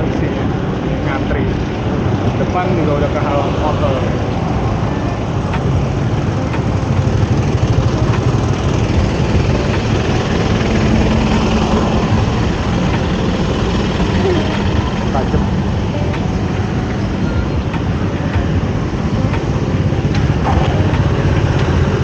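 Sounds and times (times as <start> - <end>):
motorbike engines in traffic: 0.0 - 22.0.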